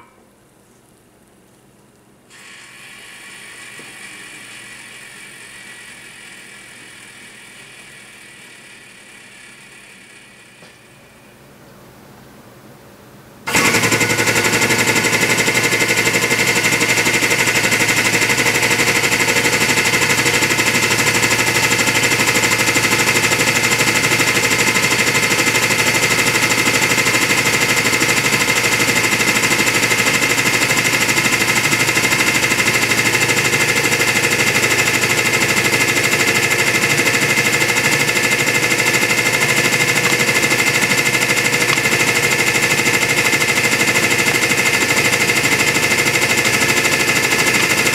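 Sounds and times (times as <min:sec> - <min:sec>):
hydraulic press pump whining: 0:02.3 - 0:11.0, 0:13.5 - 0:47.9.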